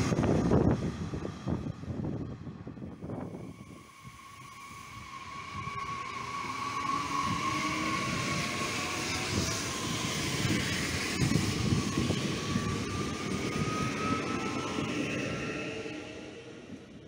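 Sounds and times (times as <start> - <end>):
train wheels rumbling on rails: 0.0 - 17.0
train whine: 0.0 - 17.0.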